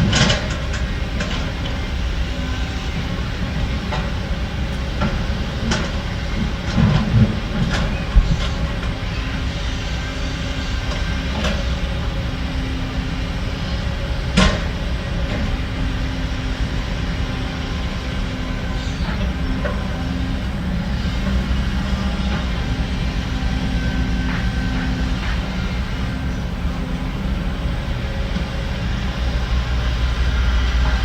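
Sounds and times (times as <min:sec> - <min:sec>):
diesel machinery rumbling: 0:00.0 - 0:31.0.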